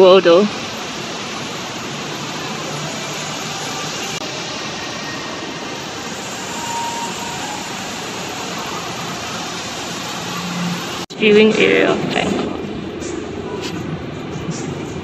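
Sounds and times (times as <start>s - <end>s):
indoor fountain water rushing: 0.0s - 12.9s.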